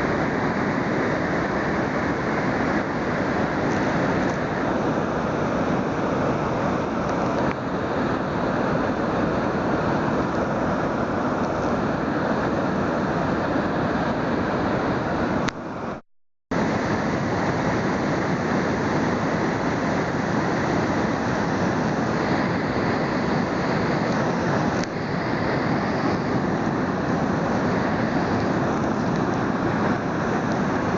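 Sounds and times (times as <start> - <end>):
flood water rushing: 0.0 - 30.9.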